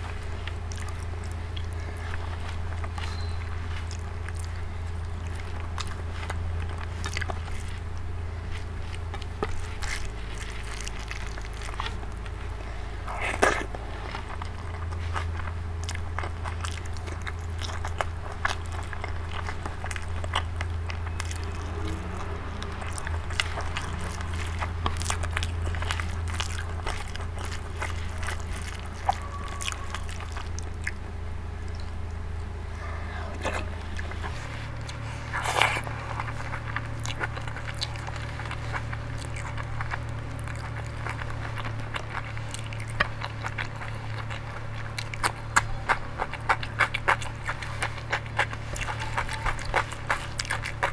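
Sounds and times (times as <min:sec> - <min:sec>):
chewing and mouth smacks: 0:00.0 - 0:50.9
steady low hum: 0:00.0 - 0:50.9.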